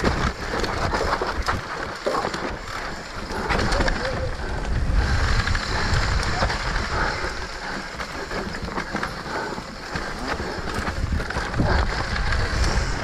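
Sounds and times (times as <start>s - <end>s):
bike rattling over bumps: 0.0s - 13.0s
bike tyres crunching on dirt: 0.0s - 13.0s.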